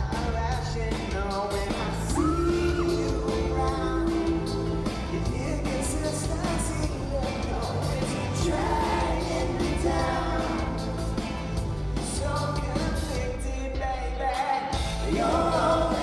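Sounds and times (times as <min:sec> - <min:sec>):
band playing: 0:00.0 - 0:16.0
male vocal group singing: 0:00.0 - 0:16.0.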